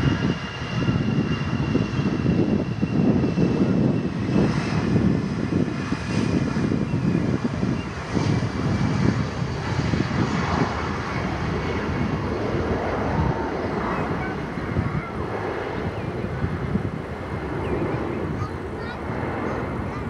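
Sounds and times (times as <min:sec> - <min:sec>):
jet engines at takeoff power: 0:00.0 - 0:20.0.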